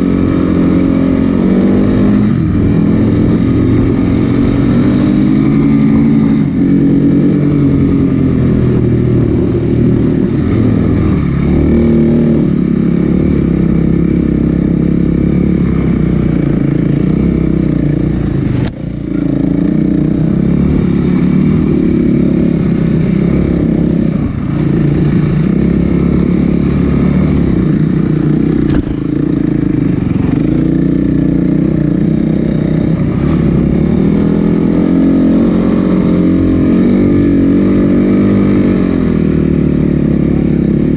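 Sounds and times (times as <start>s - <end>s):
snowbike engine revving: 0.0s - 40.9s.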